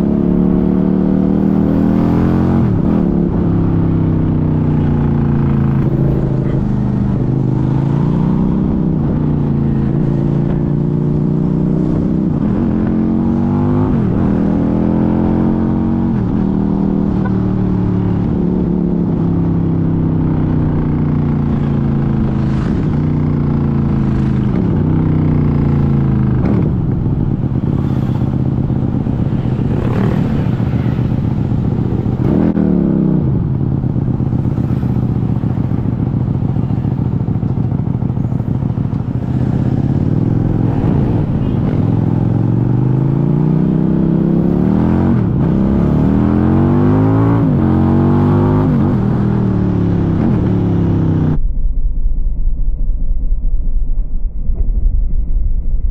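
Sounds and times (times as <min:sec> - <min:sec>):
motorcycle engine while riding: 0:00.0 - 0:51.5.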